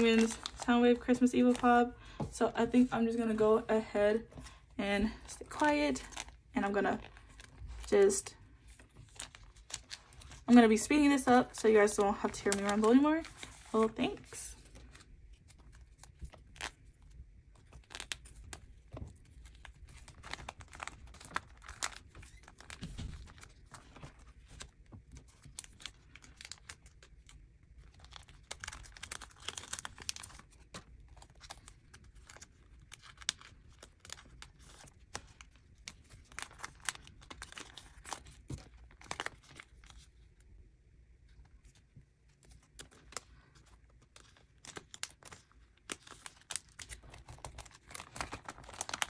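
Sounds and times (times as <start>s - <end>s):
plastic sleeves crinkling: 0.0s - 40.5s, 41.2s - 49.0s.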